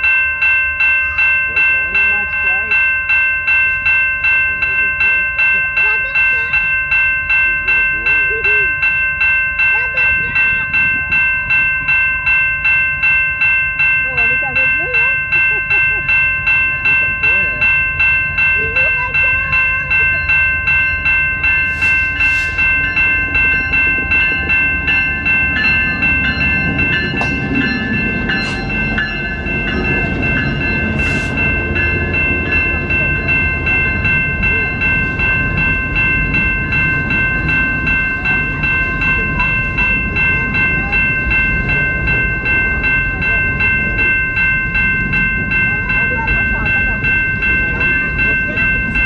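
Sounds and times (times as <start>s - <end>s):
bell ringing: 0.0s - 49.0s
train rumbling: 0.0s - 49.0s.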